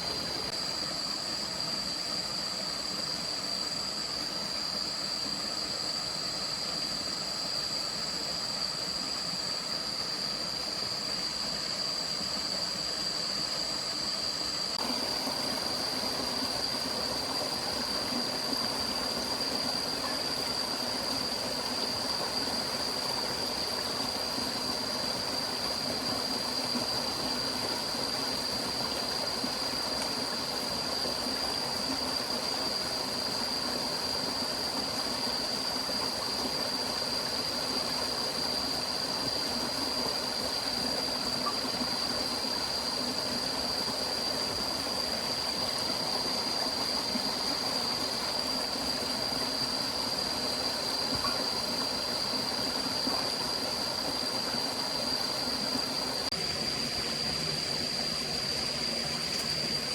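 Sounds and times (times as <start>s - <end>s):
constant high-pitched tone: 0.0s - 59.9s
stream running: 0.0s - 59.9s.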